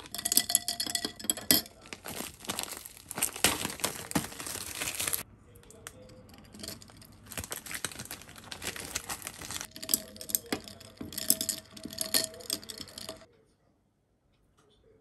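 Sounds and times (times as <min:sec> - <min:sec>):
ice and straw clinking against glass: 0:00.0 - 0:05.2, 0:05.8 - 0:13.3.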